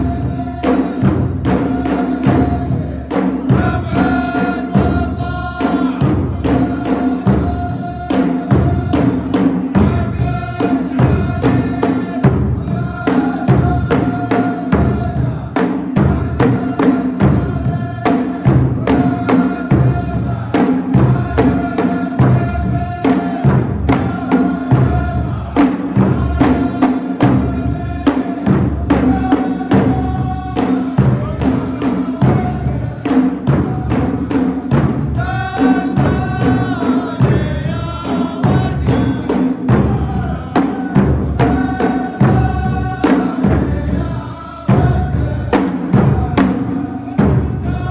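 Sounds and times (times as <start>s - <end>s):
drum beat: 0.0s - 47.9s
group singing in unison: 0.0s - 47.9s.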